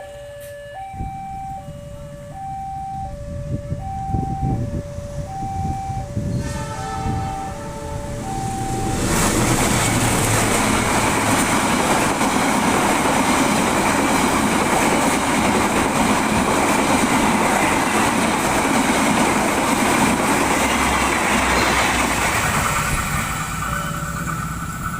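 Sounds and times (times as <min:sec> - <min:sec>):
train wheels rumbling on rails: 0:03.4 - 0:24.9.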